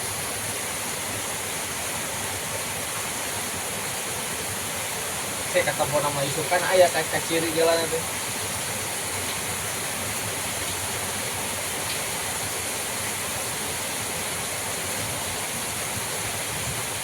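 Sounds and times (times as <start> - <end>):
rain: 0.0 - 17.0
wind rushing through pine trees: 0.0 - 17.0.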